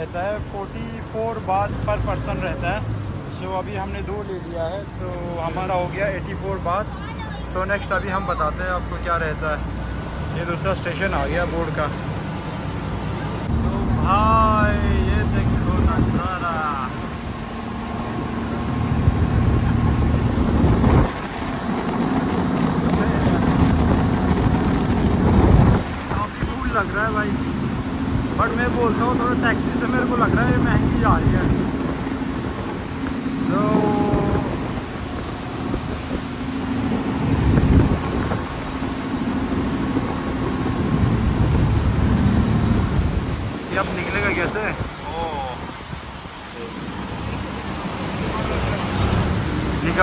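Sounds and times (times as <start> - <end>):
boat engine drone: 0.0 - 50.0
rushing water: 0.0 - 50.0
rushing wind: 0.0 - 50.0.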